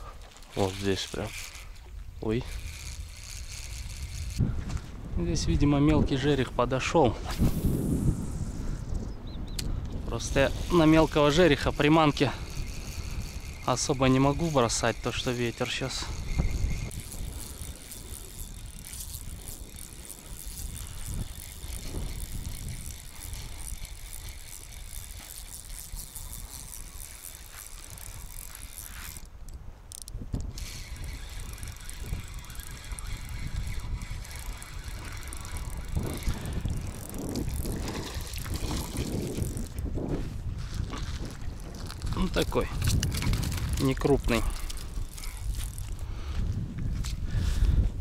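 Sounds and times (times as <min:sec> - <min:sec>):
fishing reel whirring: 0:00.0 - 0:04.4, 0:09.6 - 0:39.9, 0:40.6 - 0:46.3
wind rumble on microphone: 0:01.8 - 0:48.0.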